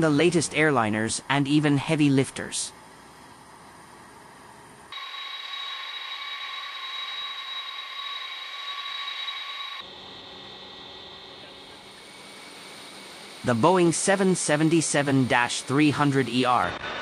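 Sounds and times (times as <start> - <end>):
jet engines whining: 0.0 - 17.0
engine noise inside cockpit: 2.7 - 17.0.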